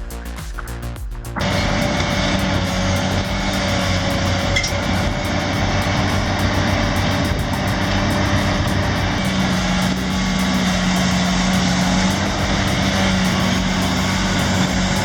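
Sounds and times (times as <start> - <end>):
heavy machine engine running: 1.4 - 15.0.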